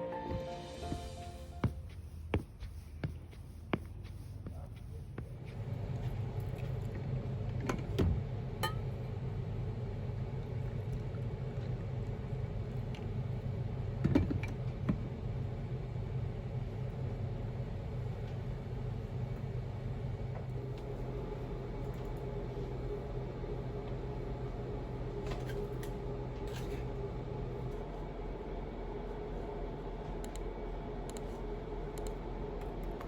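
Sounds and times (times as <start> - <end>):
steady low hum: 0.6 - 33.0.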